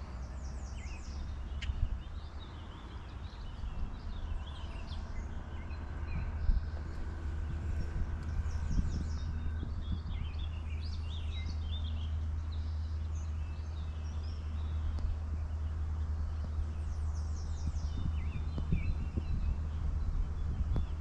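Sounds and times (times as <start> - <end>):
low rumble: 0.0 - 21.0
songbirds chirping: 0.0 - 21.0.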